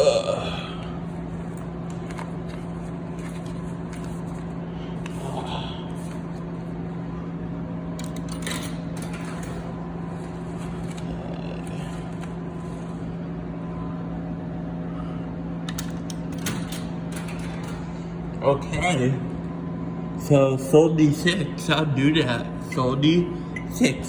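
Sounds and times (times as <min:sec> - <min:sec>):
vending machine electrical hum: 0:00.0 - 0:24.0.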